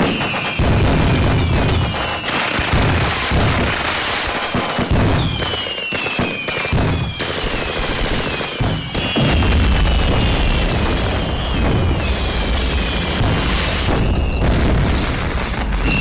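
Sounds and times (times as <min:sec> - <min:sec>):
deep firework booms: 0:00.0 - 0:05.6, 0:06.3 - 0:16.0
falling firework whistles: 0:00.0 - 0:16.0
fireworks crackling bangs: 0:00.0 - 0:16.0.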